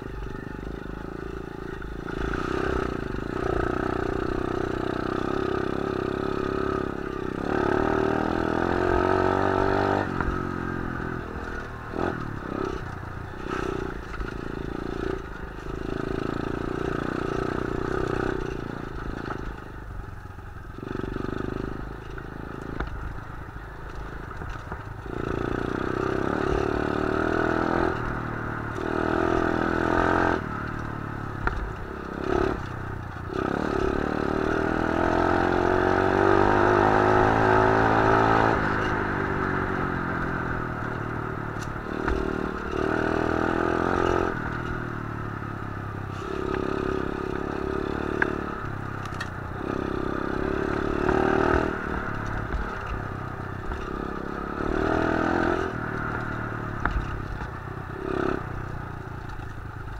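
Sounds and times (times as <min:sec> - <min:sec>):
motorbike engine revving: 0:00.4 - 0:19.7, 0:25.0 - 0:59.9.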